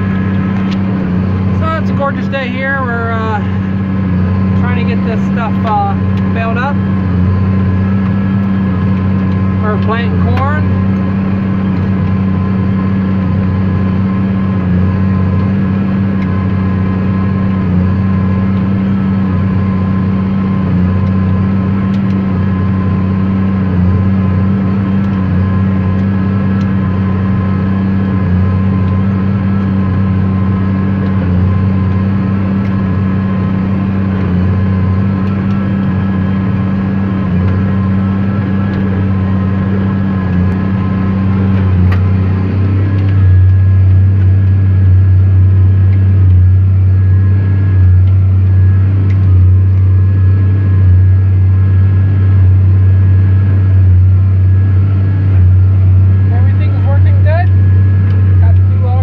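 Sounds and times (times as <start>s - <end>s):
faint steady whine: 0.0s - 59.0s
tractor diesel engine droning: 0.0s - 59.0s.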